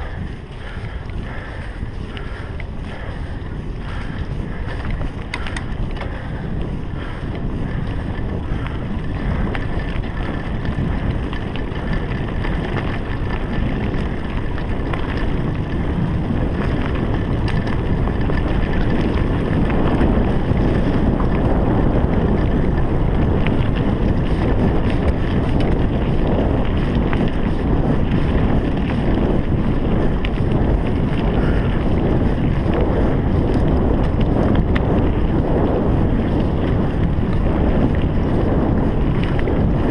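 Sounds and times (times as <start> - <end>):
bike rattling over bumps: 0.0 - 39.9
bike tyres rumbling on dirt: 0.0 - 39.9
wind over the microphone: 0.0 - 39.9.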